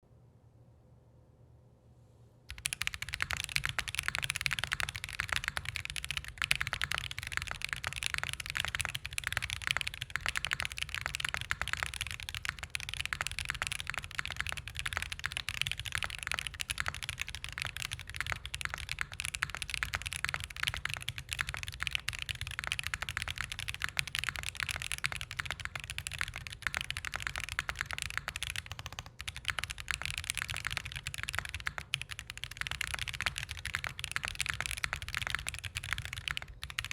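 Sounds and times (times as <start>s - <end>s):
fast typing on mechanical keyboard: 2.5s - 36.9s.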